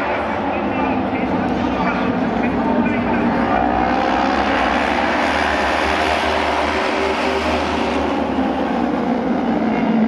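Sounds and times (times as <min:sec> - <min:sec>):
racing motorcycle engines: 0:00.0 - 0:10.0.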